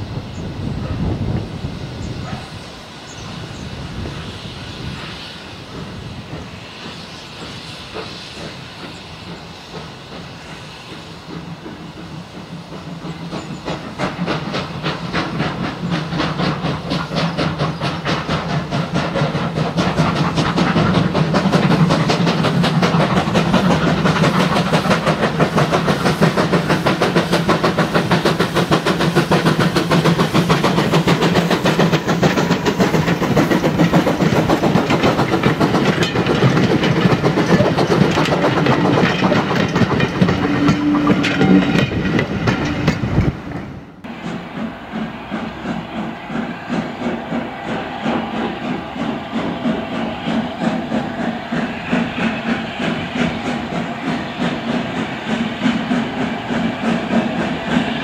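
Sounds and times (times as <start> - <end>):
steam hiss: 0.0 - 58.0
steam locomotive exhaust beats: 0.0 - 58.0
train coaches rolling past: 0.0 - 58.0.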